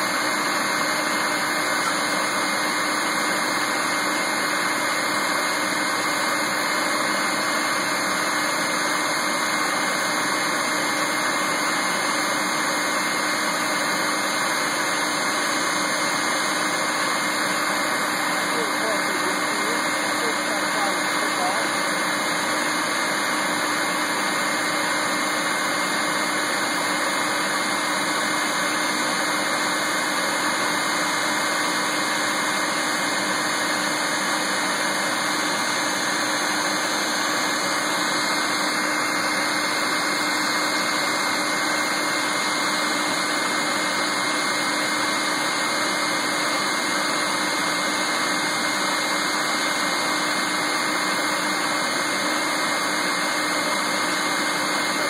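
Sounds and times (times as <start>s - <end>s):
bee vacuum running: 0.0s - 55.0s.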